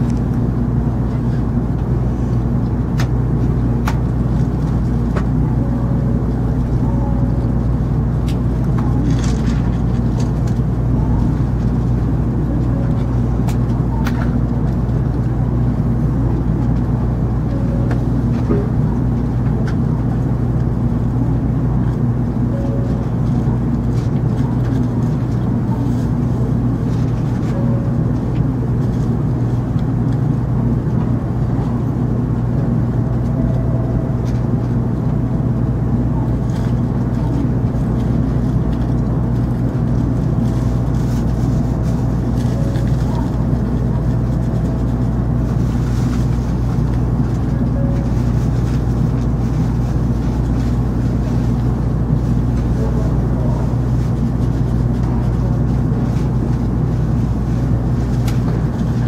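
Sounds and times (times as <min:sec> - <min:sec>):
low train interior hum: 0:00.0 - 0:59.0.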